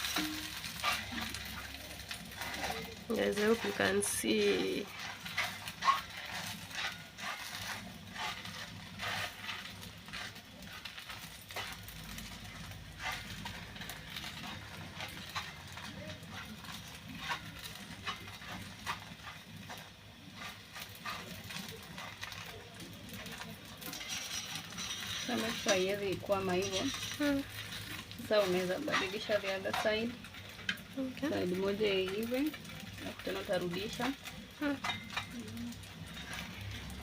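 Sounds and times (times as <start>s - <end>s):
spatula scraping frying pan: 0.0s - 37.0s.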